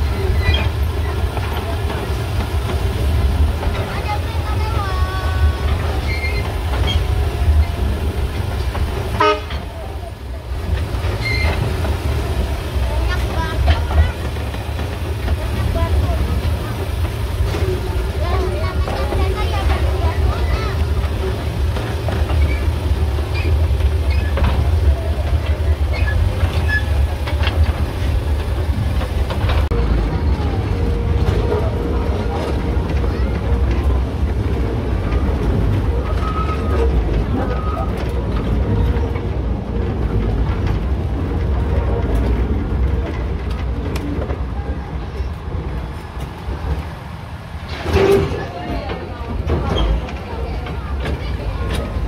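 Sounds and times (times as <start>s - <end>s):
train squeaks: 0.0s - 40.8s, 47.7s - 52.0s
train rumbling: 0.0s - 52.0s
wheels clicking on rails: 0.0s - 52.0s.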